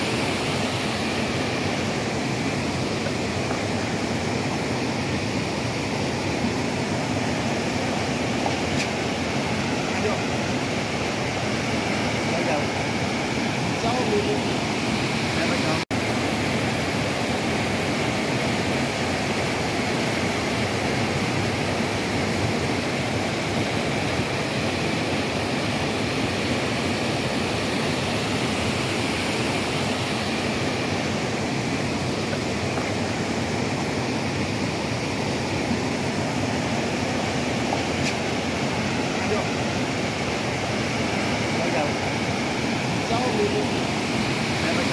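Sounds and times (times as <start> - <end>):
waterfall rushing over rocks: 0.0 - 44.9.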